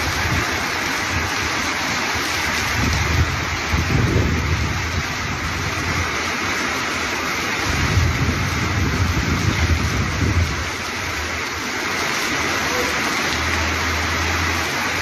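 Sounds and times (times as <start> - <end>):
torrential rain pouring: 0.0 - 15.0.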